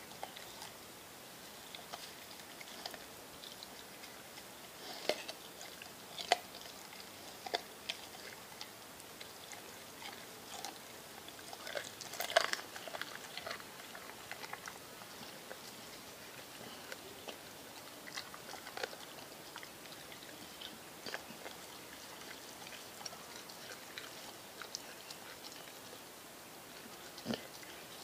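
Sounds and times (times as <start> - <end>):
dog chewing and biting: 1.6 - 26.0, 26.8 - 28.0.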